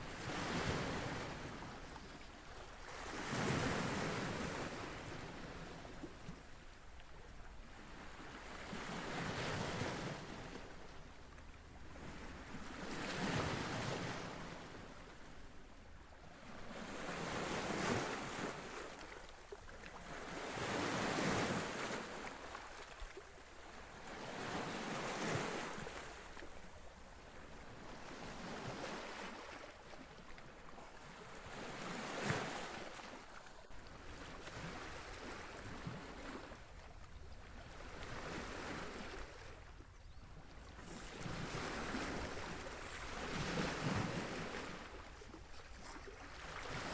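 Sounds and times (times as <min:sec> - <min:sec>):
small waves washing ashore: 0:00.0 - 0:39.8, 0:40.6 - 0:46.9.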